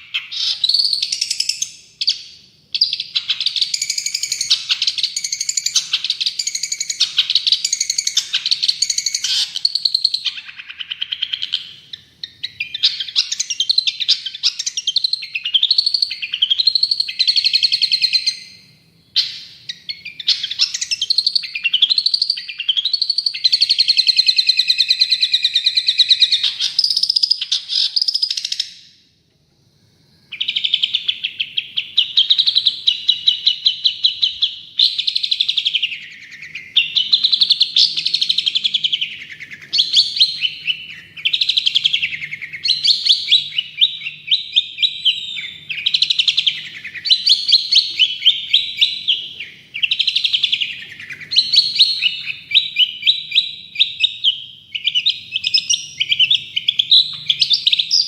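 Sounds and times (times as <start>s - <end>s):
shrike singing: 0.0s - 28.8s, 30.3s - 58.0s.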